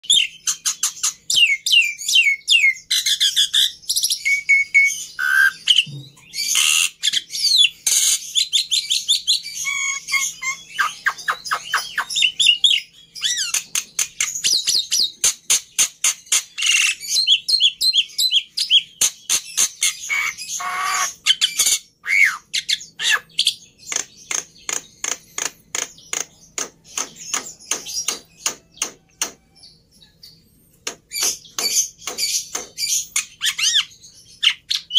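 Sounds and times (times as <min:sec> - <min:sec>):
starling singing: 0:00.0 - 0:34.9.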